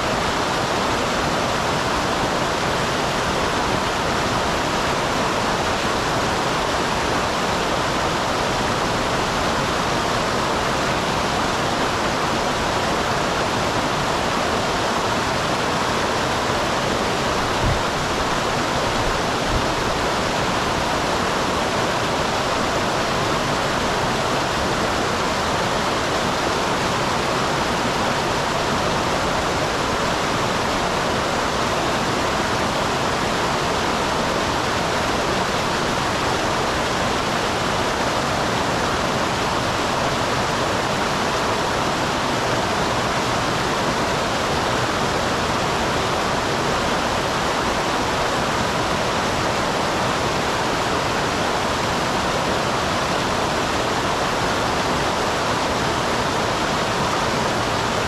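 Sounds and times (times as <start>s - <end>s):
stream over a small waterfall: 0.0s - 58.0s.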